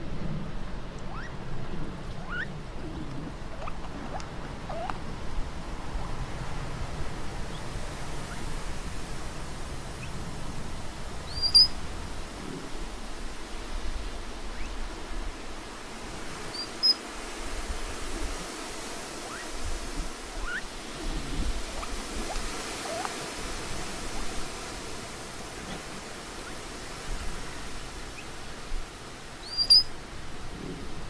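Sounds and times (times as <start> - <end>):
outdoor hiss: 4.2 - 31.0.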